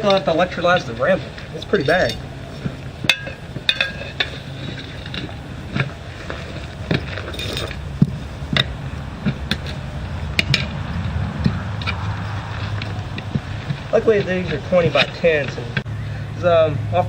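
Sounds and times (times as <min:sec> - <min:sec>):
metallic clinks and knocks: 0:00.0 - 0:15.8
steady low hum: 0:00.0 - 0:17.0.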